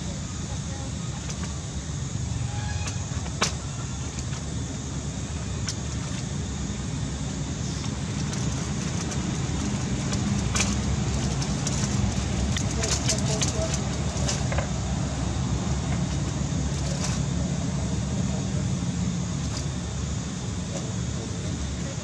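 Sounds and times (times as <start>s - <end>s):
low rumbling background noise: 0.0s - 22.0s.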